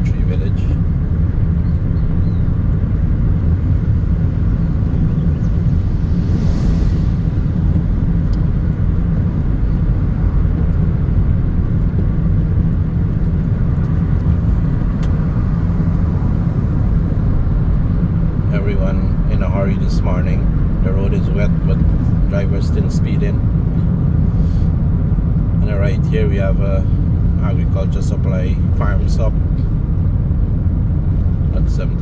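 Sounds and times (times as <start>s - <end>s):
car driving on wet road: 0.0s - 27.7s.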